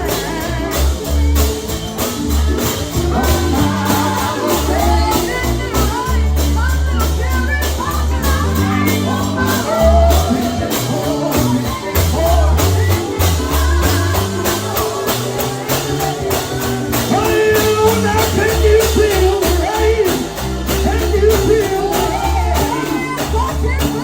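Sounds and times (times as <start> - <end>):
driving drum beat: 0.0 - 24.0
heavy bass line: 0.0 - 24.0
lead voice singing gospel: 0.0 - 24.0.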